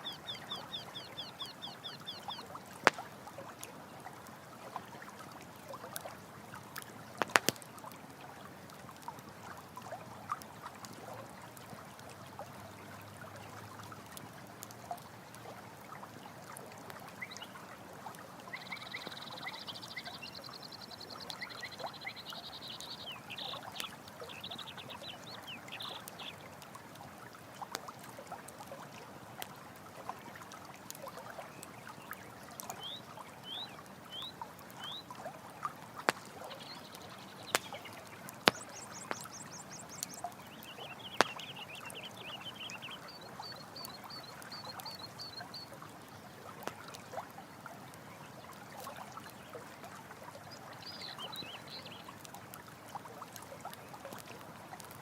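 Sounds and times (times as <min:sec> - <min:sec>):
stream water pouring: 0:00.0 - 0:55.0
campfire crackling: 0:01.3 - 0:49.3, 0:50.1 - 0:55.0.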